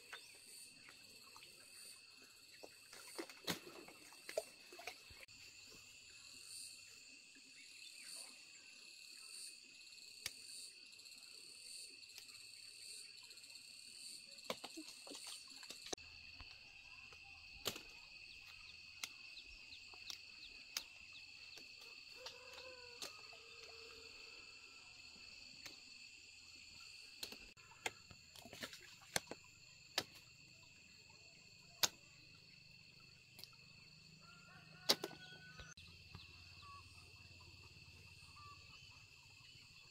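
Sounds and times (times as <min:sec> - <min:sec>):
insect chorus: 0:00.0 - 0:39.9
pulsing insect chirp: 0:00.0 - 0:39.9.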